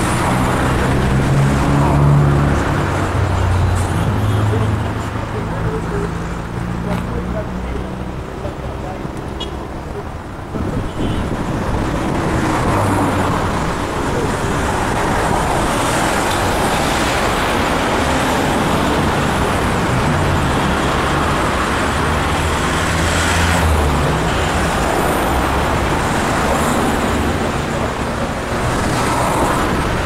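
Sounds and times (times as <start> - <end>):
cars driving past: 0.0 - 30.0.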